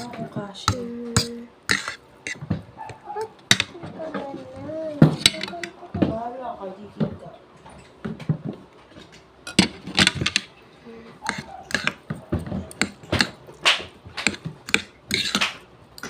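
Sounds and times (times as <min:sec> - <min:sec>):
utensils and dishes clinking: 0:00.0 - 0:04.3, 0:05.0 - 0:05.9, 0:07.6 - 0:10.6, 0:11.2 - 0:16.0.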